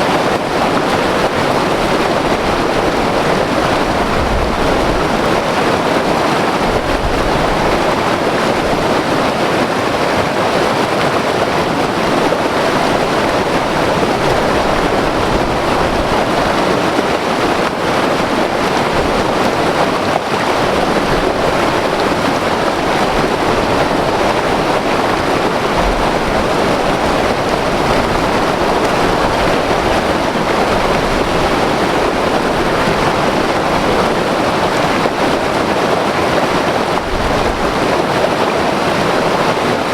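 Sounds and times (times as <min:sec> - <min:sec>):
water rushing over rocks: 0:00.0 - 0:39.9
wind rumble on microphone: 0:00.0 - 0:39.9.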